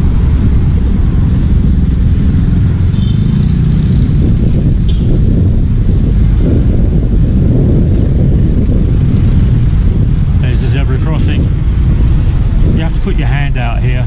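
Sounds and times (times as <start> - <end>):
cars passing: 0.0 - 14.0
low traffic rumble: 0.0 - 14.0
motorcycle tricycle engine: 0.0 - 14.0.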